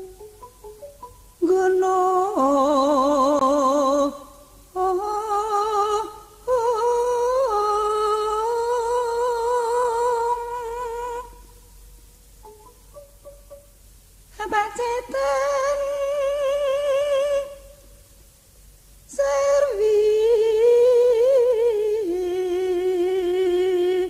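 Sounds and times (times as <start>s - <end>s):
woman singing with vibrato: 0.0s - 13.0s, 14.3s - 18.1s, 19.1s - 24.0s.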